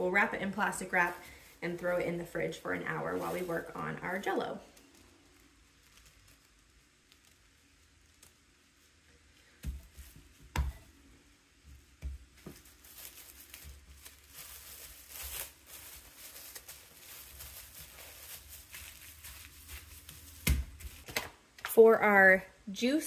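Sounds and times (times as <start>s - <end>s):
plastic wrap crinkling: 0.0s - 21.5s.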